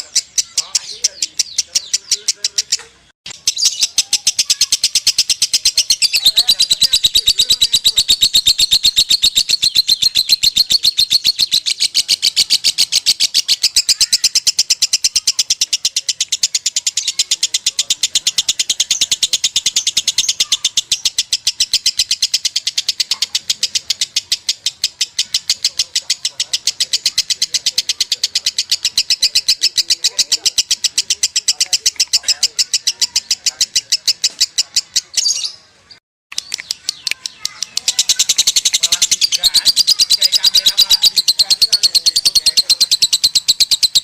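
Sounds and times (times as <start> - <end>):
bird high chattering song: 0.0 - 44.0.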